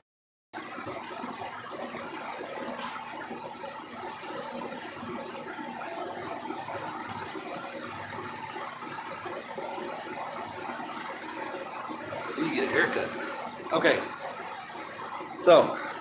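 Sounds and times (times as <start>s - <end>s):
steady machine hum and hiss: 0.9s - 16.0s.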